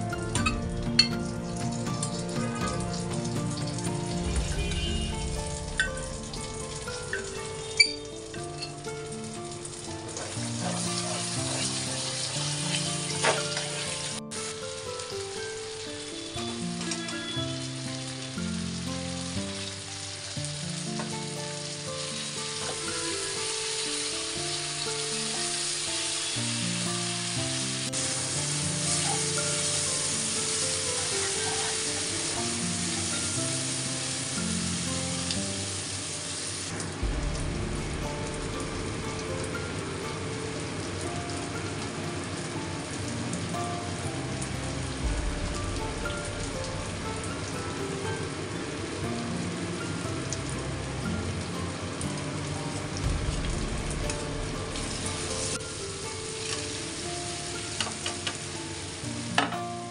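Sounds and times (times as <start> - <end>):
food sizzling in hot oil: 0.0 - 59.5
background music: 0.0 - 59.9.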